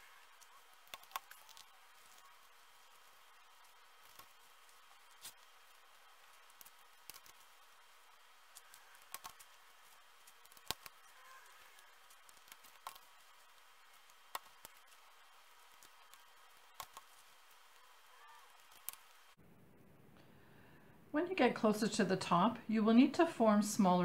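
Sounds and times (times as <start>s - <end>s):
dry husk clicks and crackles: 0.0s - 19.4s.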